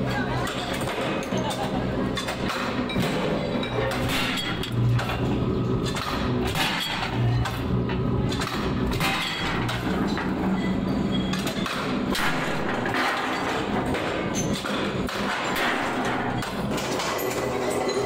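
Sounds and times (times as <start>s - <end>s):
steady mechanical din: 0.7s - 18.0s.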